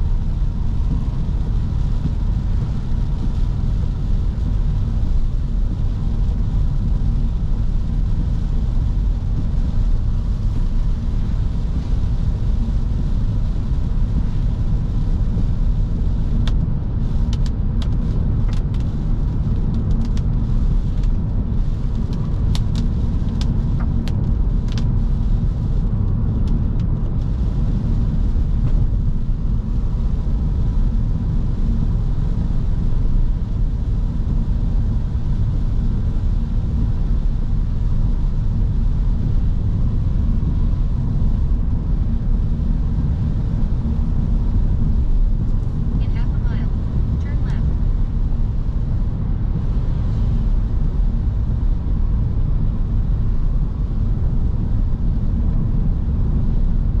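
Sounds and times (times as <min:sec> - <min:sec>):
in-cabin engine drone: 0:00.0 - 0:57.0.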